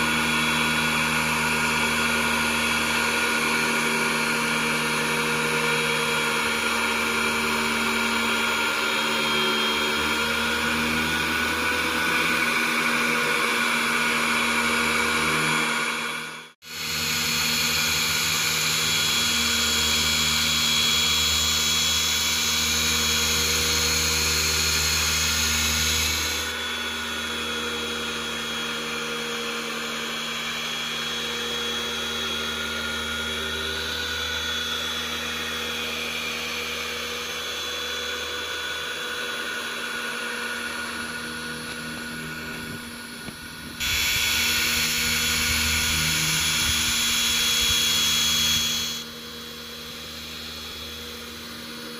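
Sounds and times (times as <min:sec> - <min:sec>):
electric car polisher running: 0:00.0 - 0:51.9.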